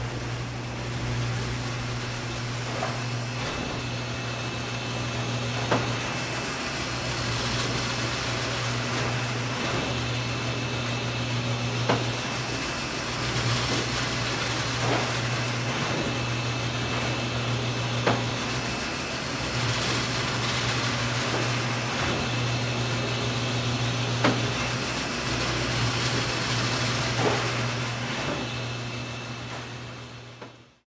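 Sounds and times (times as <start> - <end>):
printing press motor hum: 0.0 - 30.8.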